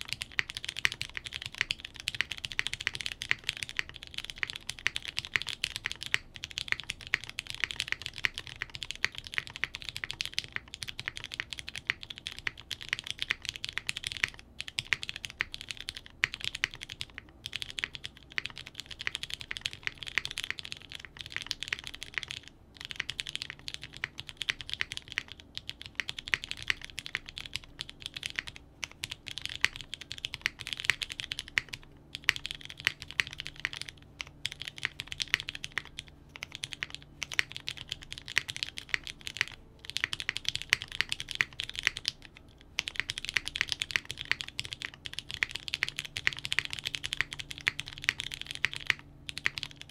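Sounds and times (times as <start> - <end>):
fast typing on keyboard: 0.0 - 49.9.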